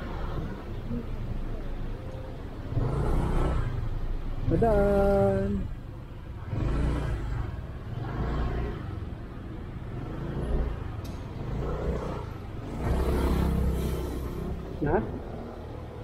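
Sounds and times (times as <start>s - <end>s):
scooter engine and road rumble: 0.0s - 16.0s.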